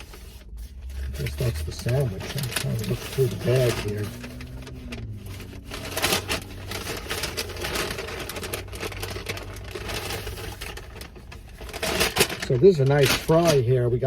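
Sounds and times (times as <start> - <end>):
steady low hum: 0.0 - 13.3
paper bag rustling: 0.0 - 14.0.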